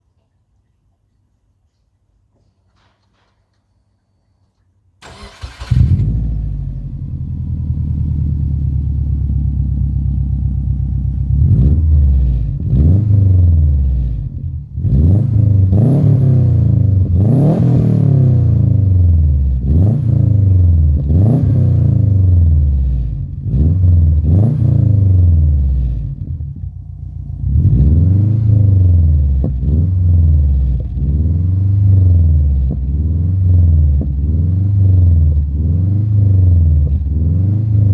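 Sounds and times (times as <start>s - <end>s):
car engine idling and revving: 5.0s - 37.9s
car engine starting: 5.0s - 37.9s.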